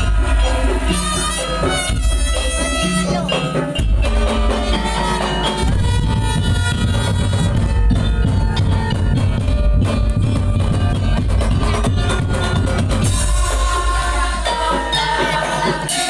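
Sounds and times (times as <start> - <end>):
pulsing drum and bass: 0.0 - 16.0
reedy wind melody: 0.0 - 16.0.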